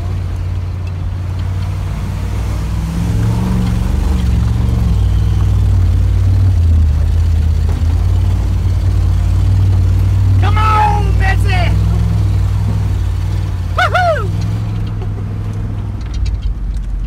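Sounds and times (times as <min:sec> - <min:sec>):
vehicle driving through mud: 0:00.0 - 0:17.0
vehicle engine droning: 0:00.0 - 0:17.0.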